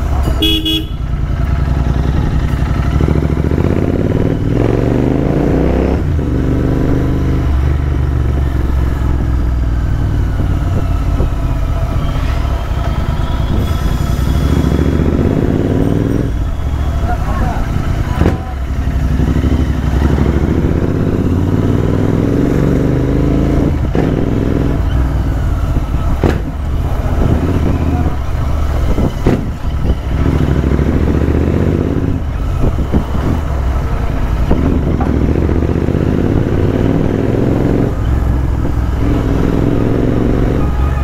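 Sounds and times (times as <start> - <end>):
motorcycle engine accelerating: 0.0 - 40.7.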